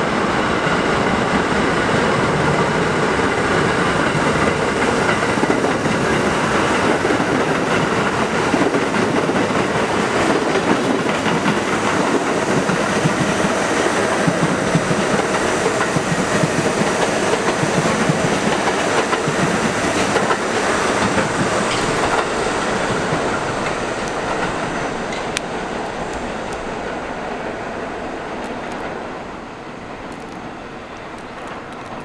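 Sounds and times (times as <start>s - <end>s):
subway train wheels clattering: 0.0s - 32.0s.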